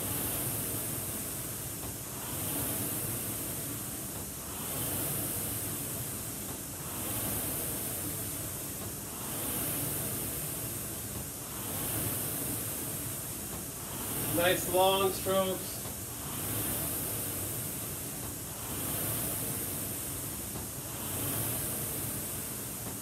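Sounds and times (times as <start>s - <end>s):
rowing machine fan whooshing: 0.0s - 23.0s.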